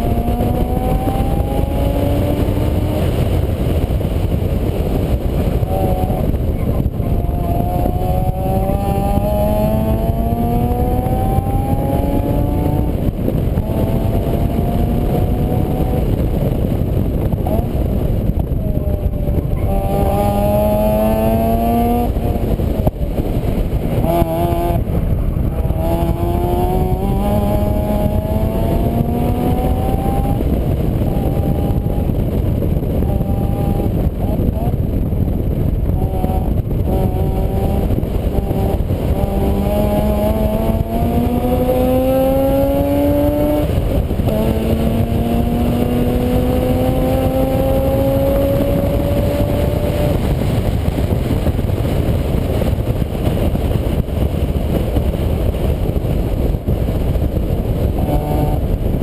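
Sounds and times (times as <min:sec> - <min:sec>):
vehicle engine accelerating: 0:00.0 - 0:59.0.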